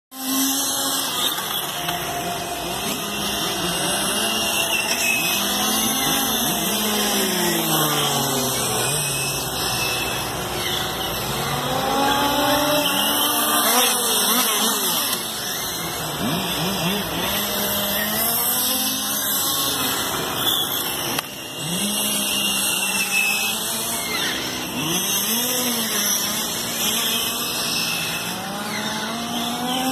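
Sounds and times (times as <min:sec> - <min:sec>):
radio-controlled car motors whining: 0:00.2 - 0:29.9.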